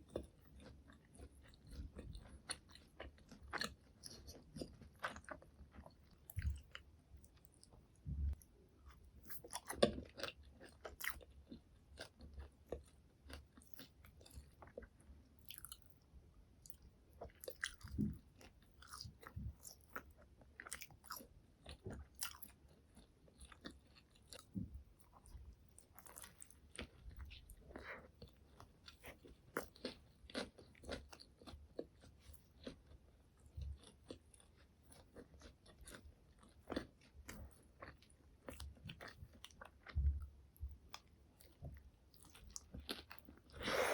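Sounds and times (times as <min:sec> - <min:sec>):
person chewing crunchy food: 0:00.0 - 0:16.0, 0:16.6 - 0:43.9.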